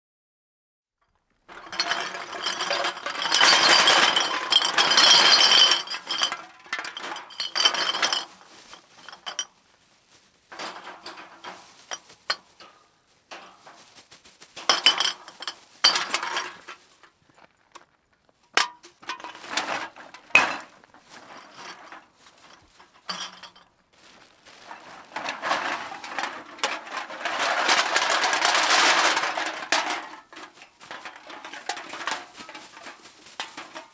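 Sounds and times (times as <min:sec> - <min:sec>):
cans clinking and rattling: 0:01.5 - 0:09.5, 0:10.5 - 0:13.8, 0:14.6 - 0:16.8, 0:18.6 - 0:23.7, 0:24.6 - 0:33.9.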